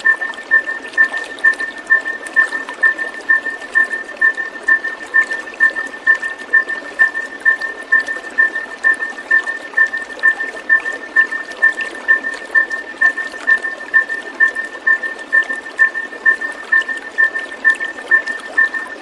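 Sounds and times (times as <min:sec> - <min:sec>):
repeated high-pitched beep: 0:00.0 - 0:19.0
rushing trickling water: 0:00.0 - 0:19.0.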